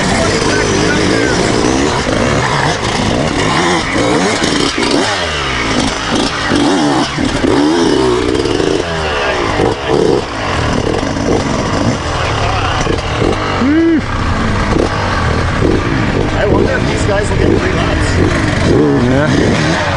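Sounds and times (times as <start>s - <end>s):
dirt bike engines revving: 0.0s - 19.9s.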